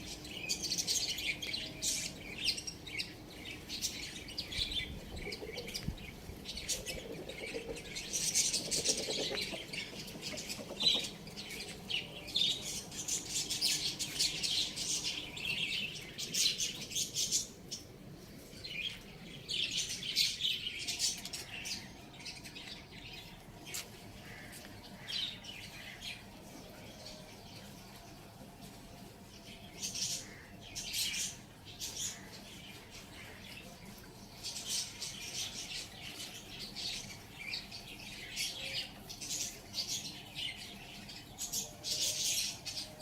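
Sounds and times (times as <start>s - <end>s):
small birds chirping and twittering: 0.0s - 43.0s.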